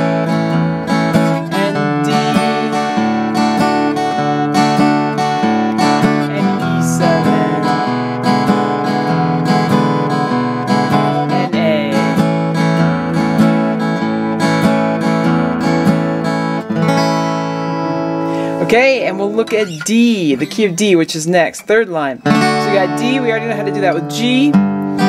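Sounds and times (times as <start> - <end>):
flatpicked acoustic guitar: 0.0 - 25.0.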